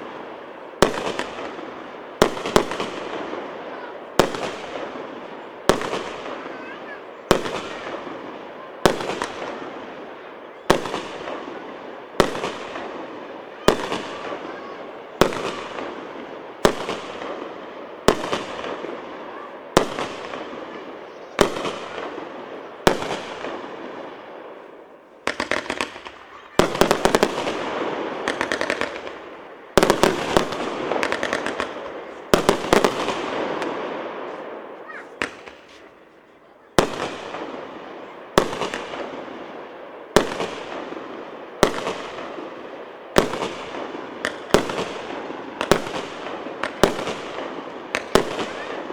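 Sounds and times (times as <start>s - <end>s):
firework cake shots: 0.0s - 48.9s.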